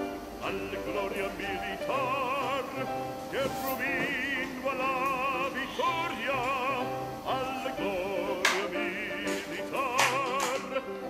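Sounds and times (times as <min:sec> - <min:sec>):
opera singer sustained notes: 0:00.2 - 0:10.0.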